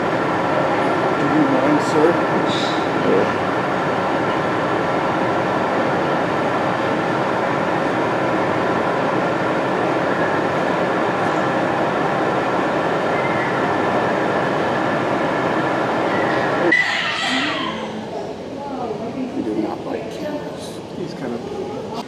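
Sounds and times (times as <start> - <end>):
rushing machine noise: 0.0 - 19.5
faint high hum: 0.0 - 22.0.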